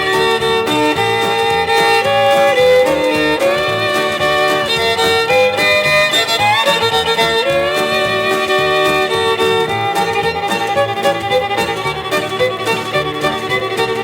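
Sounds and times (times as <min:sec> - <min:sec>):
country rhythm backing: 0:00.0 - 0:14.0
fiddle solo: 0:00.0 - 0:14.0.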